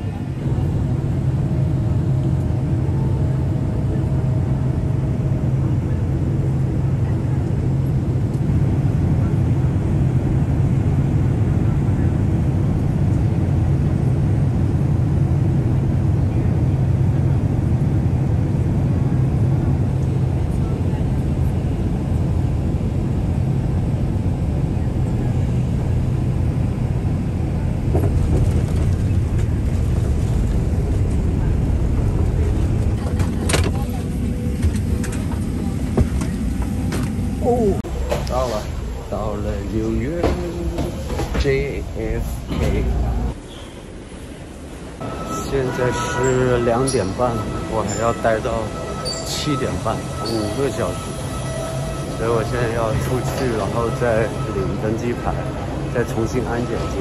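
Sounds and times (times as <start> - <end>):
jet engines and airflow rumble: 0.0 - 57.0.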